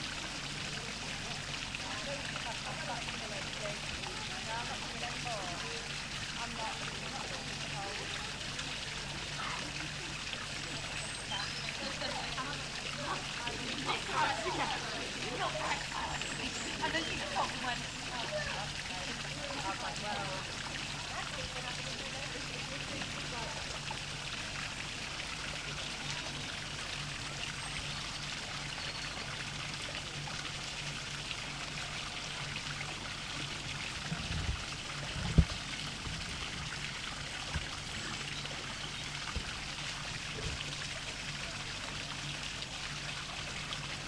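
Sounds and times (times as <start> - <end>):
small waterfall splashing: 0.0 - 44.0.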